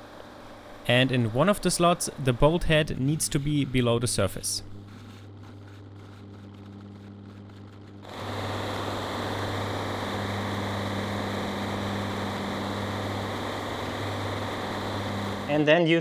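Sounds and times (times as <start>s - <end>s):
electric motor humming: 0.0s - 15.8s
machine whirring: 0.0s - 15.8s.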